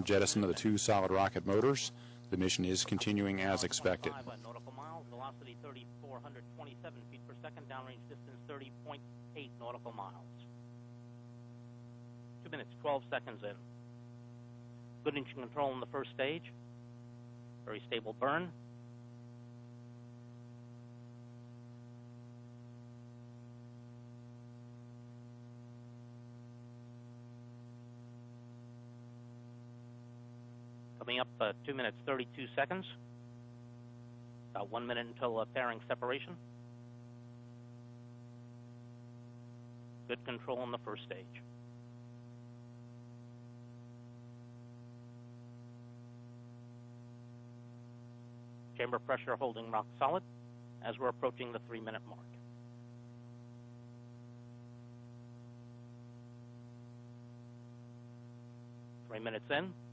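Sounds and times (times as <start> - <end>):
buzzy electrical mains hum: 0.0 - 59.9.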